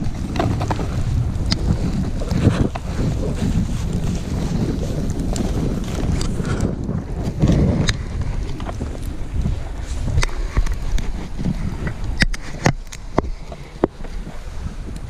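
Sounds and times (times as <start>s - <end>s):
snowboard scraping over snow: 0.0s - 15.0s
wind buffeting microphone: 0.0s - 15.0s.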